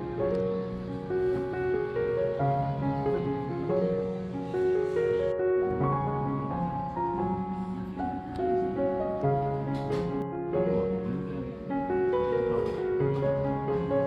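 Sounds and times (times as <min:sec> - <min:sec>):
gentle piano and keyboard melody: 0:00.0 - 0:14.0.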